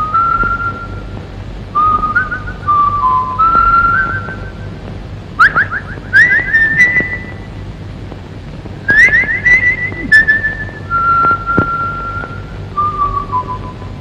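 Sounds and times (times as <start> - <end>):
high whistling: 0.0 - 4.8, 5.4 - 7.5, 8.8 - 14.0.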